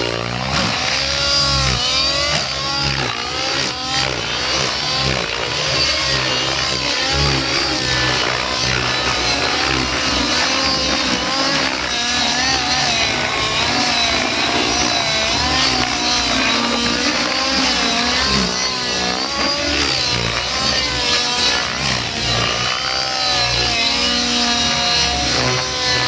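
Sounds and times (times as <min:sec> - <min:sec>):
model helicopter engine wavering: 0:00.0 - 0:26.0.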